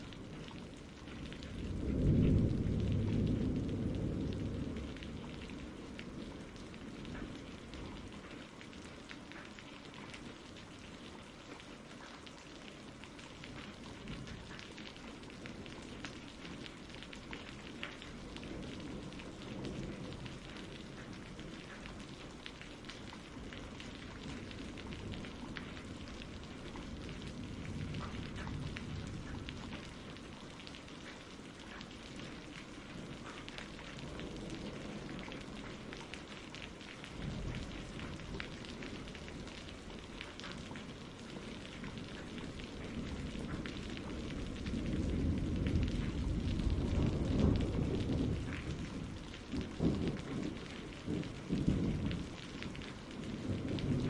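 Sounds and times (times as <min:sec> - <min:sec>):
thunder rumbling: 0:00.0 - 0:08.4, 0:13.2 - 0:54.0
steady rain pattering: 0:00.0 - 0:54.0.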